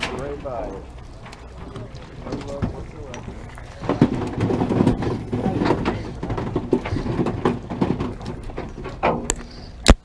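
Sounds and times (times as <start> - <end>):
handling knocks and clicks: 0.0 - 10.0.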